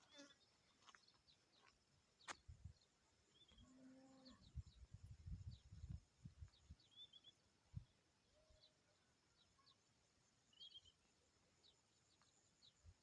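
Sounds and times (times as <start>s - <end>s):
small birds twittering: 0.0s - 13.0s.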